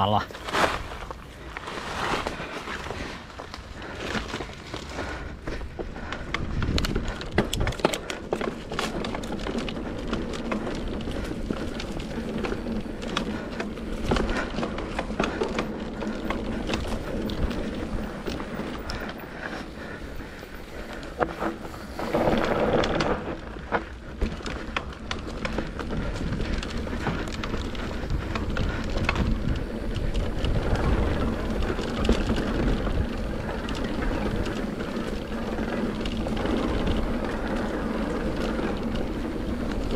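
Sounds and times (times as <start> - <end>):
bike rattling over bumps: 0.0 - 39.9
tyre and wind noise: 0.0 - 39.9.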